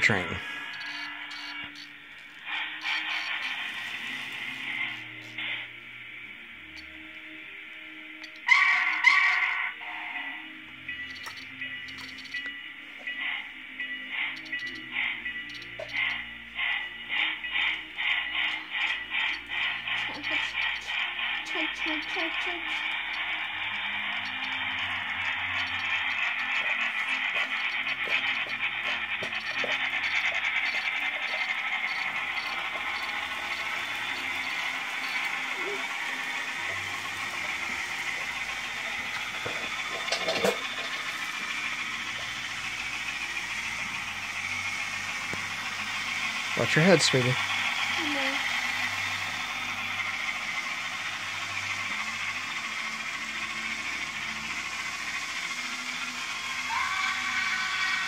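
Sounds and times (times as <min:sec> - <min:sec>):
model train whirr and rattle: 0:00.0 - 0:58.0.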